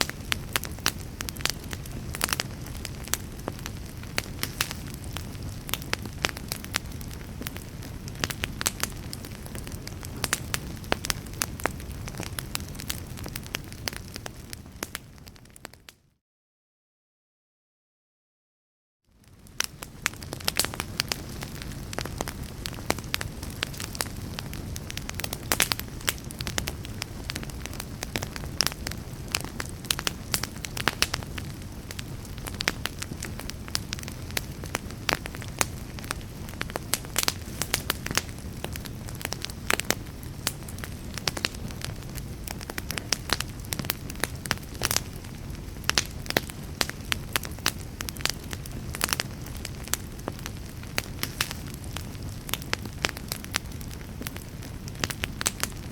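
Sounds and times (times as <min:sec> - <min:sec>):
wood fire crackling: 0:00.0 - 0:15.9, 0:19.1 - 0:55.9.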